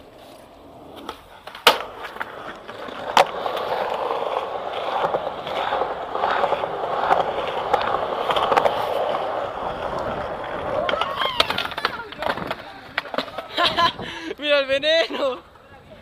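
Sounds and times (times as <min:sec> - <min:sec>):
skateboard clacking on ground: 0:00.0 - 0:13.9
skateboard wheels rolling on tiles: 0:00.0 - 0:16.0.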